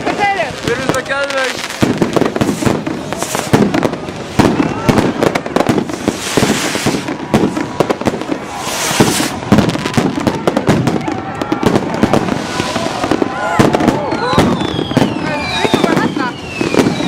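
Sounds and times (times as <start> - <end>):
firework hissing bursts: 0.0 - 17.0
fireworks bangs and crackles: 0.0 - 17.0.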